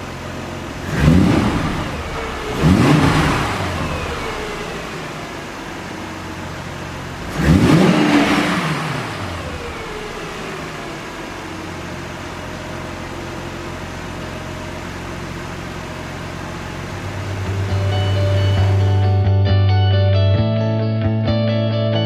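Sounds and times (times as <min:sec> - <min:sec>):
car engine revving and idling: 0:00.0 - 0:19.3.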